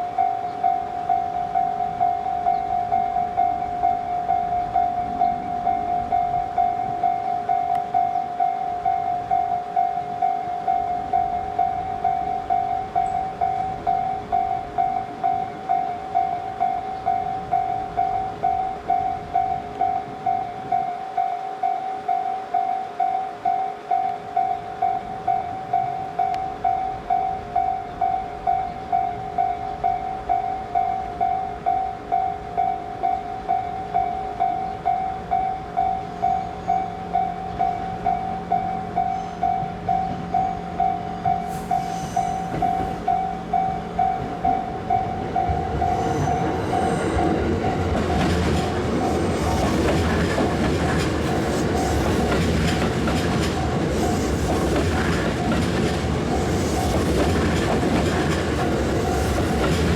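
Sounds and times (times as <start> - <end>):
level-crossing warning bell: 0.0 - 59.9.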